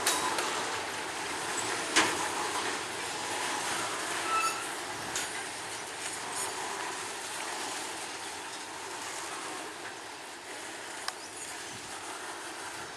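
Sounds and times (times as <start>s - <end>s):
train wagons rumbling on track: 0.0s - 12.9s.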